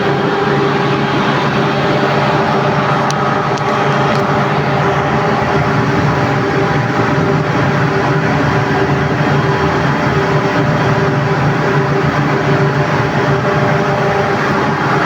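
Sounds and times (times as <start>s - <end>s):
industrial compressor running: 0.0s - 15.0s.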